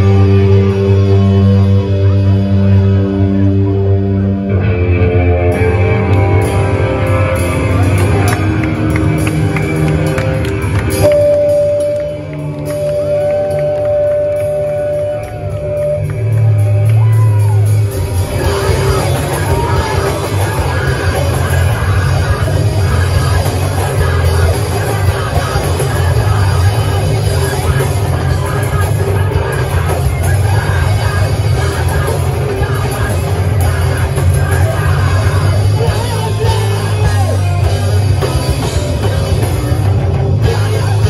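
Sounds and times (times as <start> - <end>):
drums: 0.0 - 41.0
electric guitar chords: 0.0 - 41.0.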